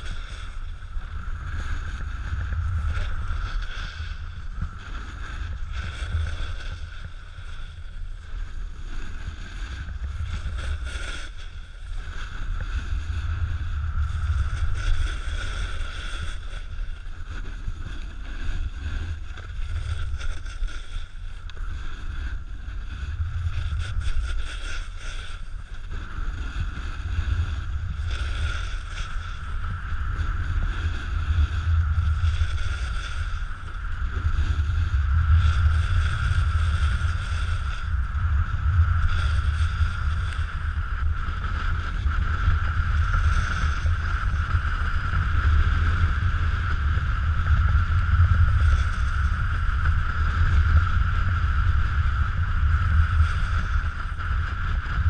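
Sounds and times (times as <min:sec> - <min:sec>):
snowboard hissing on snow: 0:00.0 - 0:54.2
wind buffeting microphone: 0:00.0 - 0:55.0.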